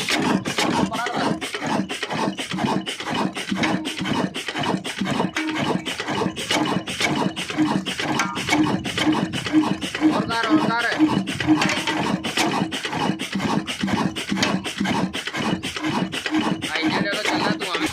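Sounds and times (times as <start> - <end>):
diesel engine knocking: 0.0 - 17.9
rasping flour mill: 0.0 - 17.9.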